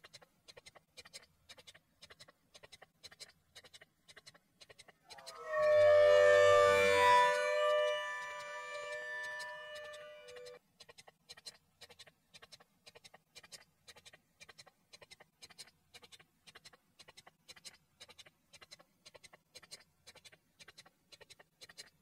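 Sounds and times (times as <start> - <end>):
faint rhythmic mechanical clicking: 0.0 - 5.2, 9.3 - 22.0.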